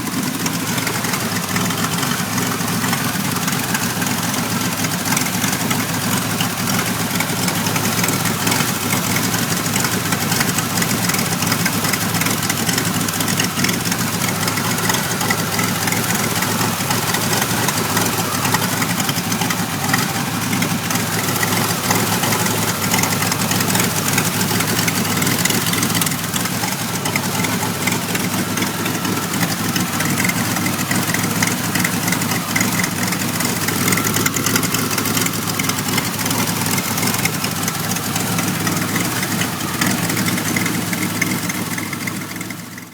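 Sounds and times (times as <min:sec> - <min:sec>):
car engine rough idle: 0:00.0 - 0:42.9.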